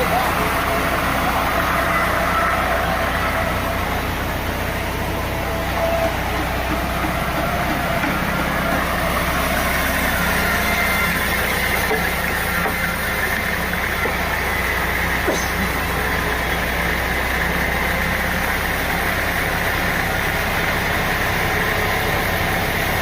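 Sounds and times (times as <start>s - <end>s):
sawmill machinery droning: 0.0s - 23.0s.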